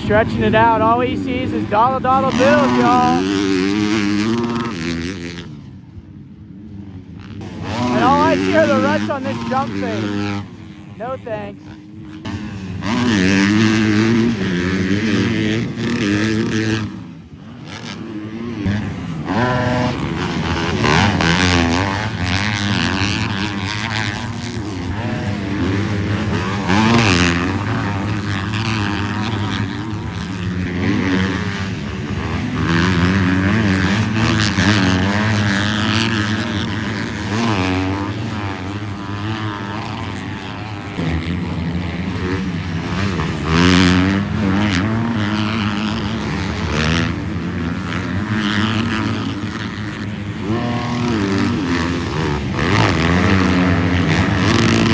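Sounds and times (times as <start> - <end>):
motocross bikes revving: 0.0 - 54.9.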